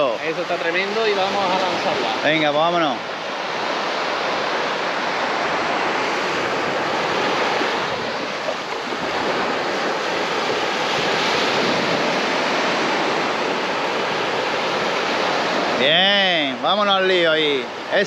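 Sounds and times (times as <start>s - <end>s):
sea surf washing onto beach: 0.0s - 18.0s.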